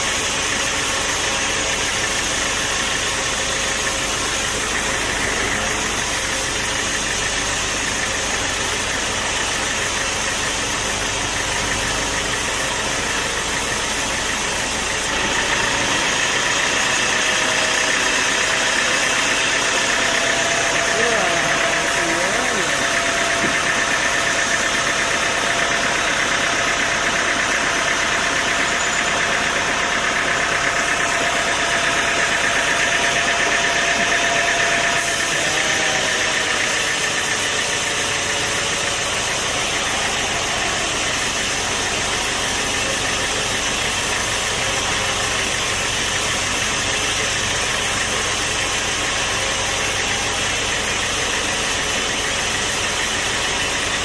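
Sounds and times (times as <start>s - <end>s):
machine running with high whine: 0.0s - 54.0s.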